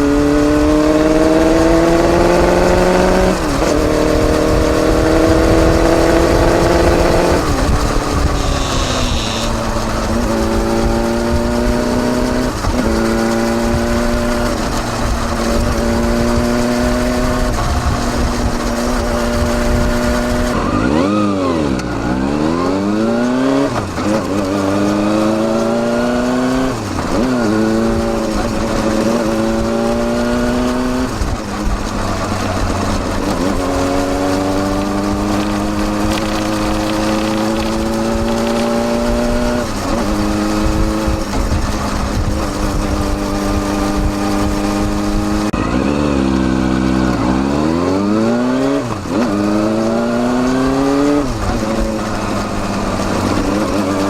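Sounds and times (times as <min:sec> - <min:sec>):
motorcycle engine exhaust: 0:00.0 - 0:54.0.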